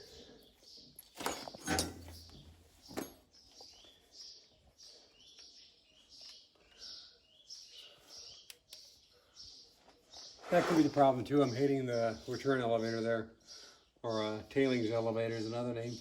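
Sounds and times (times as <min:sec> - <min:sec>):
small bird chirping: 0:00.0 - 0:14.7.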